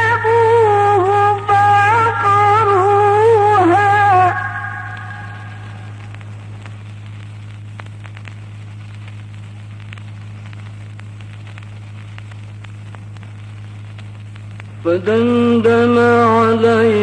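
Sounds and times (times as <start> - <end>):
faint crackles: 0.0 - 17.0
low electrical hum: 0.0 - 17.0.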